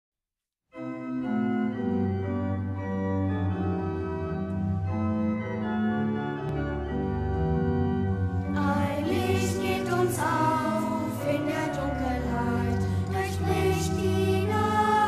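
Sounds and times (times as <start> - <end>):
church organ chords: 0.7 - 15.0.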